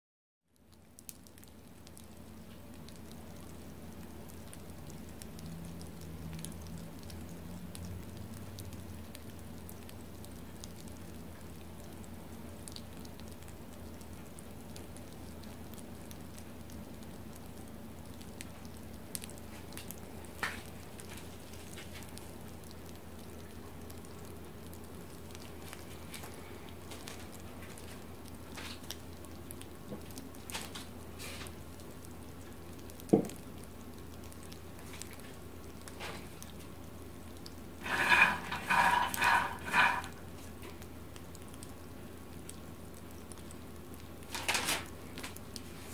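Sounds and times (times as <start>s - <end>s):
peanuts ticking and crackling: 0.5s - 45.9s.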